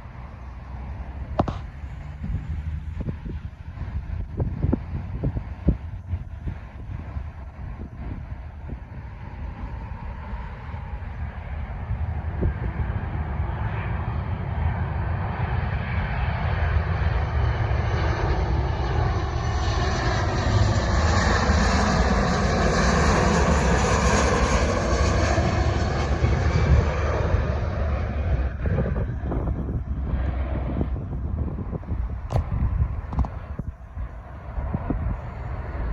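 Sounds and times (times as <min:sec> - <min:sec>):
jet airliner flying past: 0:00.0 - 0:35.9.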